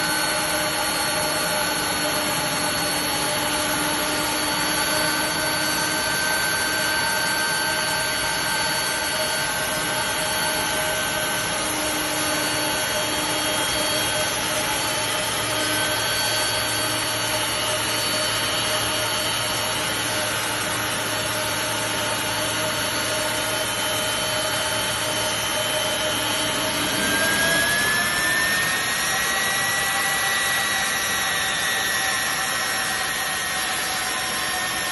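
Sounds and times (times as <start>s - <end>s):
jet engines roaring and whining: 0.0s - 34.9s.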